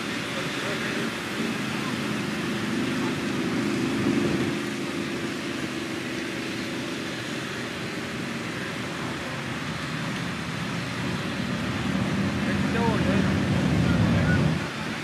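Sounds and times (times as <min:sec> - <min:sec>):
buggy engine running under load: 0:00.0 - 0:15.0.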